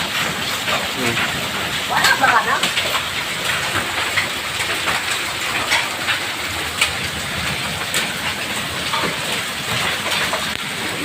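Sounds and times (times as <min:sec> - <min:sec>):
hailstones clicking on hard surfaces: 0:00.0 - 0:11.0
heavy rain hiss: 0:00.0 - 0:11.0.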